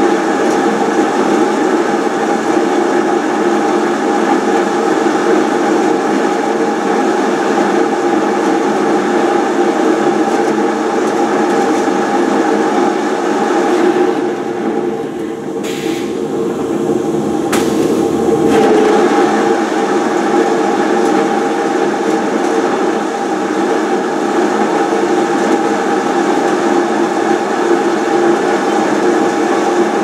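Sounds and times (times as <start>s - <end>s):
lathe humming: 0.7s - 30.0s.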